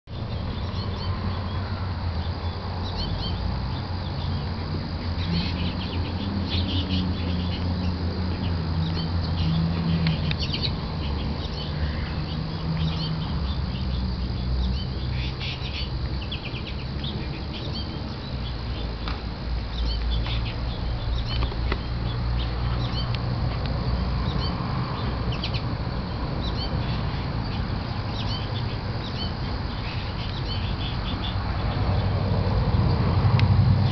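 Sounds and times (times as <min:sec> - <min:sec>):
finches chirping and twittering: 0:00.1 - 0:33.1
steady low hum: 0:00.1 - 0:33.9.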